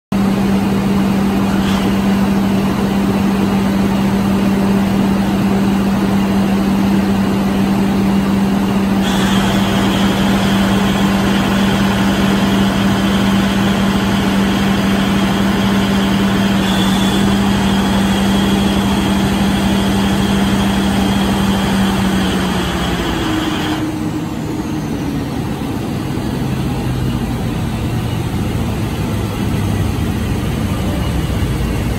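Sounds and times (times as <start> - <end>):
diesel generator engine running: 0.1 - 31.9
high whine: 0.2 - 31.9.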